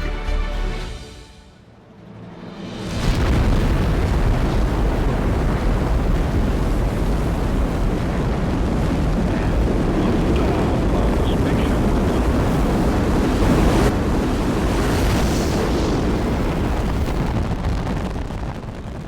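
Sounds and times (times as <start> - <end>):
rocket engines deep rumble: 2.4 - 19.0.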